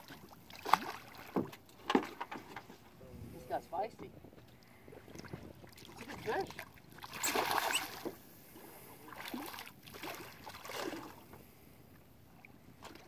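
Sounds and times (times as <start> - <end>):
water sloshing: 0.0 - 3.4, 4.0 - 11.3.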